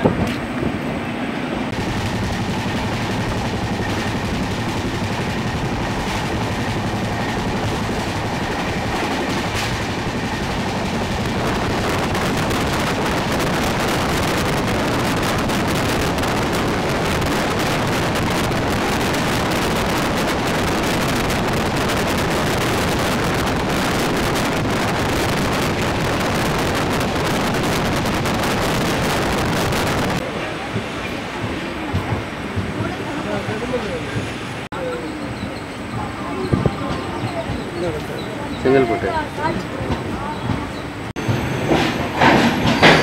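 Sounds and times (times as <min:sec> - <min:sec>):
wind rushing over microphone: 0:00.0 - 0:34.7
train running at speed: 0:00.0 - 0:43.0.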